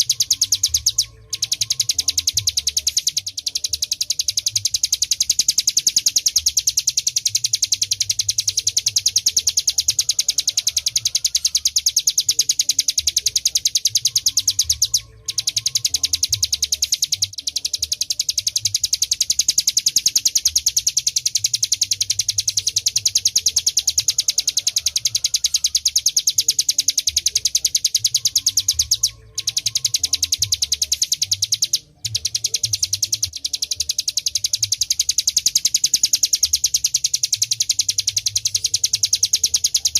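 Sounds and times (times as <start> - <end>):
bird singing rapid high trill: 0.0 - 39.9.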